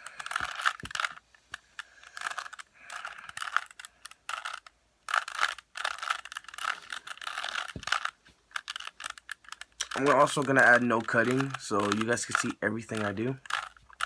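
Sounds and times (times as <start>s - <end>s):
puzzle cube plastic clicking: 0.0s - 14.0s.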